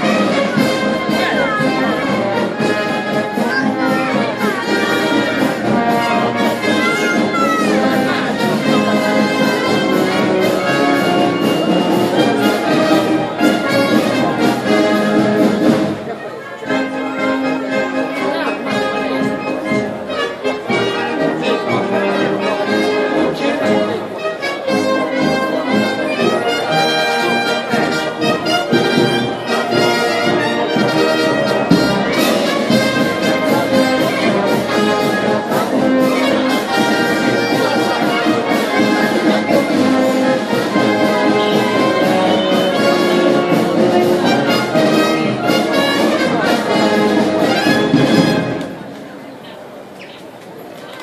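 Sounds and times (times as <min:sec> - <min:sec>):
brass band playing: 0:00.0 - 0:49.5.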